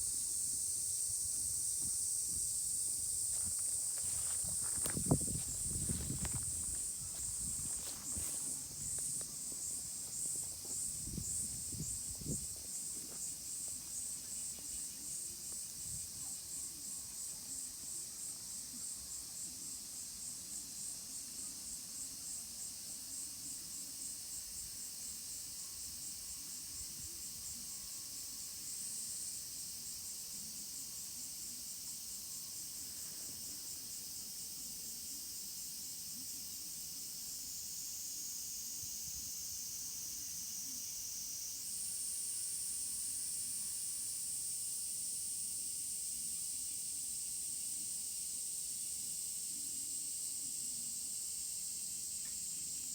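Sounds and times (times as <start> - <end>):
insect high pulsing buzz: 0.0 - 52.9.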